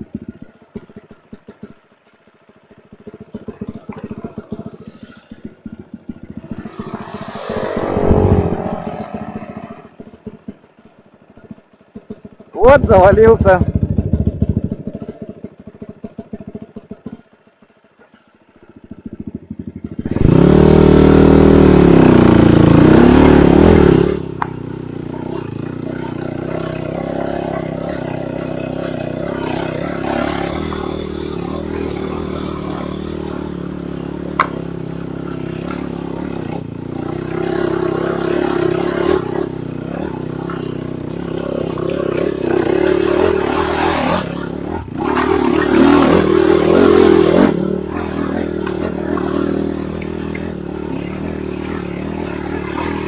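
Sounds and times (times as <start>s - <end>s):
dirt bike engine revving: 0.0s - 10.6s, 18.8s - 53.0s
engine clatter: 0.0s - 53.0s.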